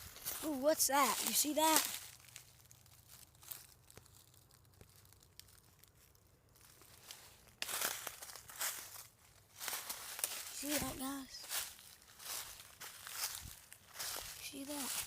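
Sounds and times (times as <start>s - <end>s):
footsteps crunching in dry leaves: 0.0s - 15.0s.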